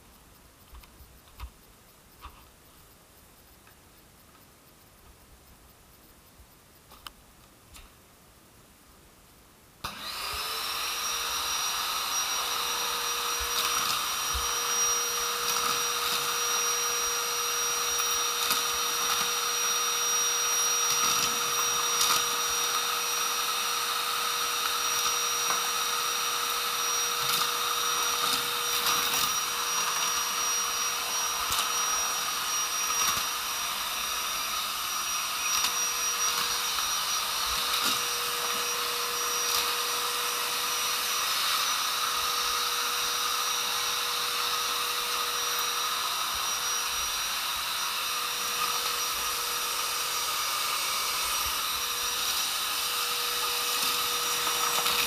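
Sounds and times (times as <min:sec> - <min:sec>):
vacuum cleaner motor whine: 0:09.8 - 0:55.0.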